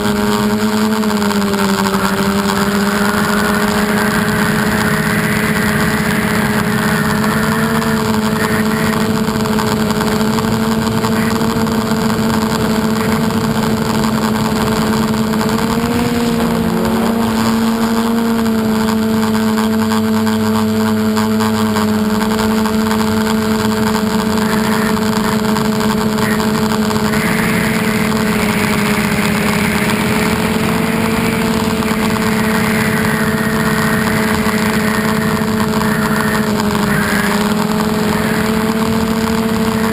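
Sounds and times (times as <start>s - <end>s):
drone motors humming: 0.0s - 39.9s.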